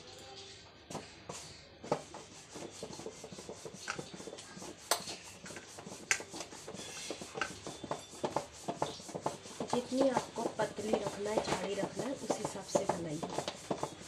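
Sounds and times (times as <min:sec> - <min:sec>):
rolling pin rubbing dough: 0:00.9 - 0:14.0.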